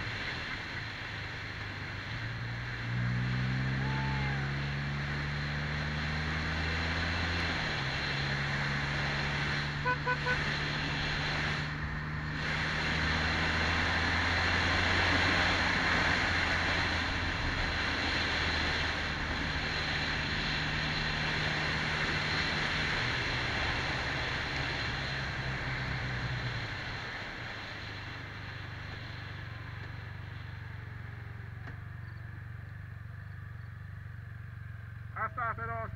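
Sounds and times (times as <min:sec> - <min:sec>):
motorcycle engine cruising: 0:00.0 - 0:35.9
wind and road rush: 0:00.0 - 0:35.9.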